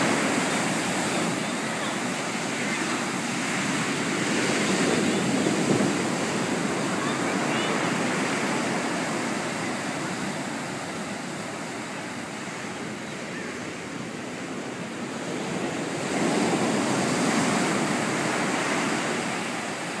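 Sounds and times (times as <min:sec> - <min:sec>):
ocean surf breaking on sand: 0:00.0 - 0:20.0.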